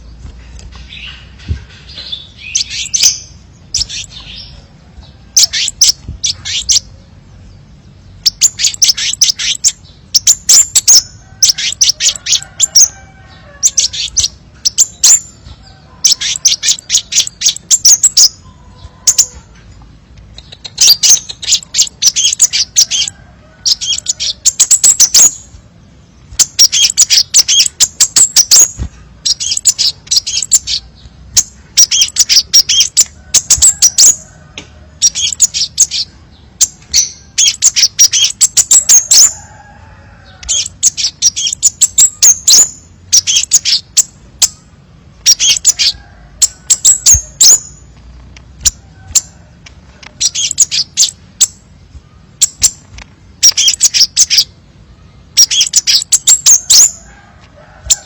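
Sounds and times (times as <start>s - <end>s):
bird chirping high-pitched: 0.0s - 57.1s.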